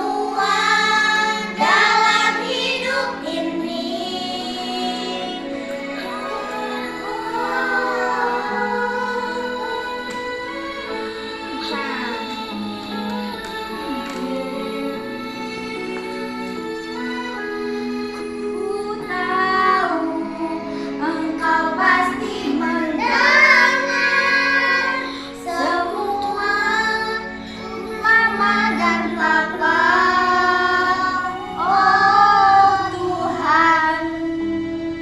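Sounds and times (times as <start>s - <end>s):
child singing: 0.0s - 15.0s, 18.5s - 34.2s
instrumental accompaniment: 0.0s - 35.0s.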